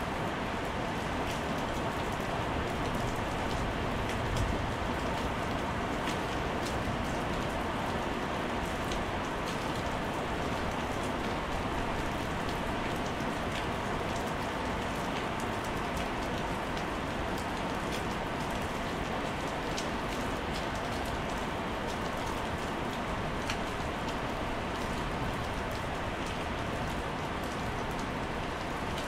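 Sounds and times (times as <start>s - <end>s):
heavy rain on paving: 0.0s - 29.0s.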